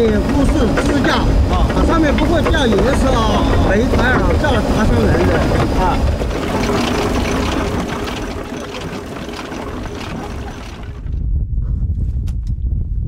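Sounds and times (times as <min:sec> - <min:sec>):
heavy mining machinery running: 0:00.0 - 0:11.2.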